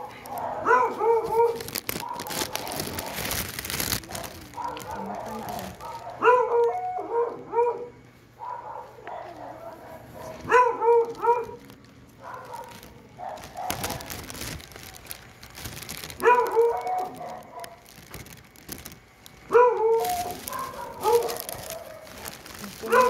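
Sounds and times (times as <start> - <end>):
dog barking: 0.0 - 3.4, 4.1 - 14.2, 16.2 - 17.8, 19.5 - 23.0.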